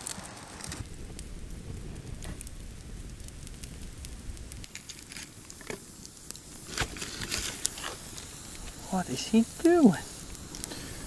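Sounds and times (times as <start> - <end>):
fire popping: 0.0 - 11.0
wood fire crackling: 0.0 - 11.0
low rumble: 0.2 - 10.6.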